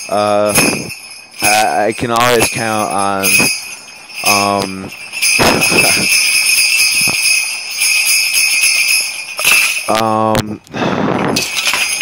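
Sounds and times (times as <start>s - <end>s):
high jingling: 0.0s - 12.0s.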